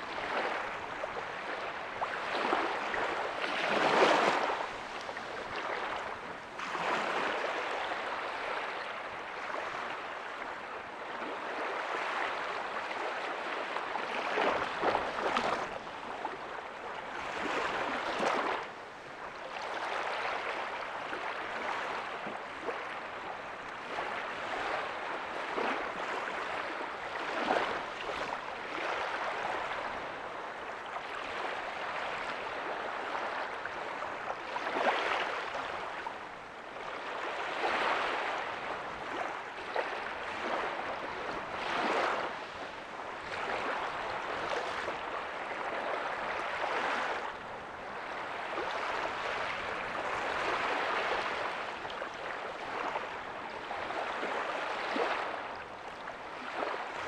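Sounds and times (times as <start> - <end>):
ocean waves washing on beach: 0.0 - 57.0.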